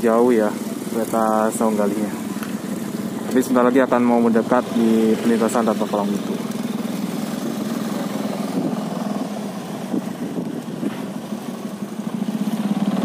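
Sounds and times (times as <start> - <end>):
engine running with pulsing hum: 0.0 - 13.0.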